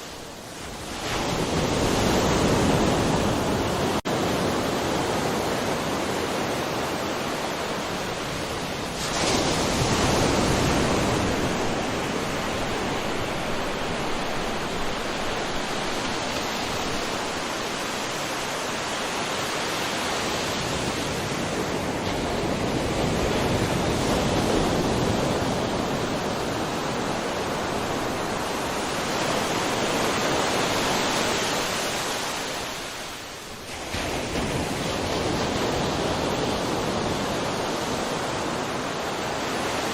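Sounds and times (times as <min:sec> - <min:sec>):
sea surf washing on shore: 0:00.0 - 0:39.9.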